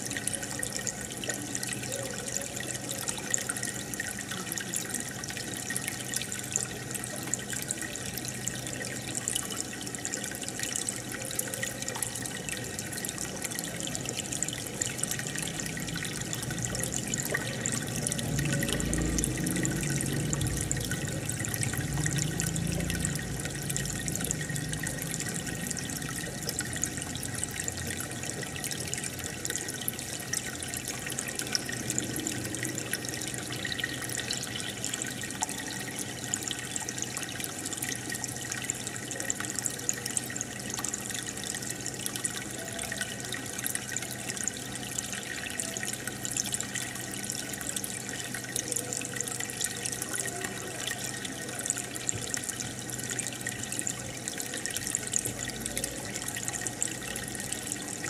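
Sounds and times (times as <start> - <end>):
faint steady hum: 0.0 - 58.0
water bubbling and splashing: 3.3 - 58.0.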